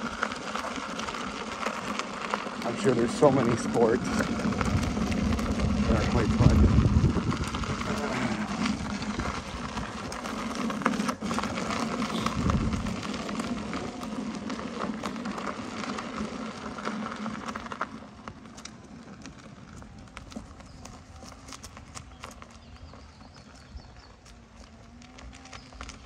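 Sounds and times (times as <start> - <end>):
steady low motor hum: 0.0 - 26.0
tyre crunching over gravel: 0.0 - 26.0.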